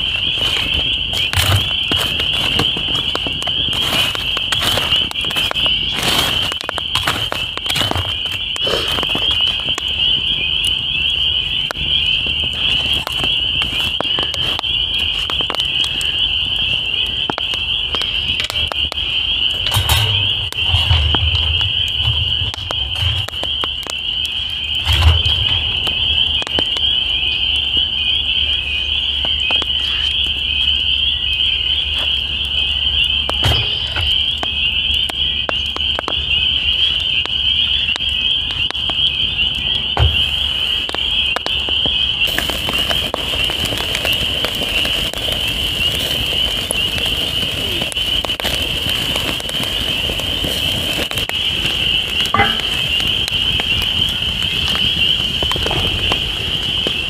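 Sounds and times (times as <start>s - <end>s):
frogs calling in chorus: 0.0s - 57.0s.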